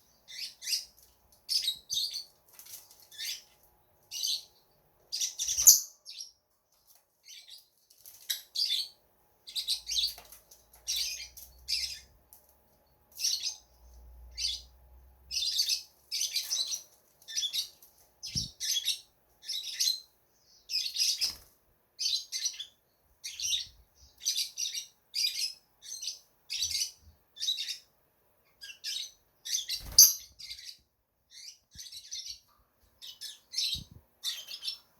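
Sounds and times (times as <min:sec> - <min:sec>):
lovebirds chirping: 0:00.0 - 0:02.4, 0:07.2 - 0:12.2, 0:13.1 - 0:34.9.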